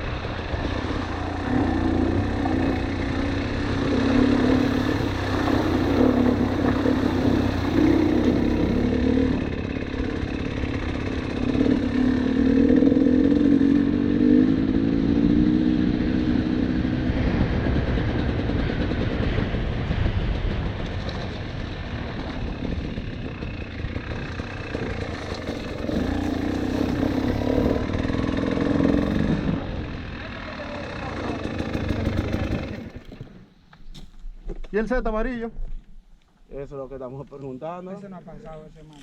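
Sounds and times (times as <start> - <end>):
dirt bike engine revving: 0.0 - 19.5, 20.4 - 33.5.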